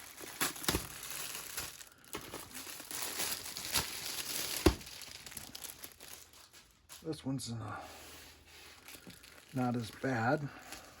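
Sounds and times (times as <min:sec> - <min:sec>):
plastic packaging crinkling: 0:00.0 - 0:07.2, 0:08.5 - 0:11.0.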